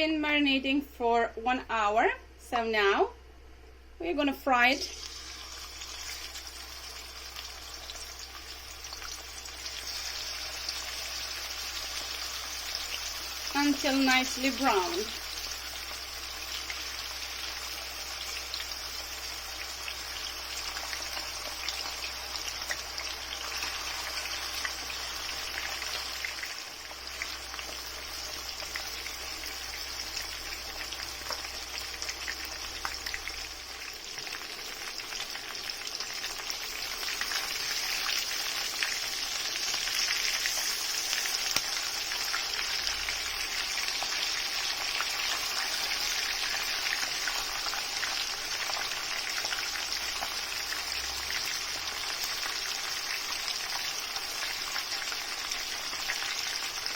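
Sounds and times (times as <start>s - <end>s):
chicken sizzling in oil: 4.7s - 56.9s.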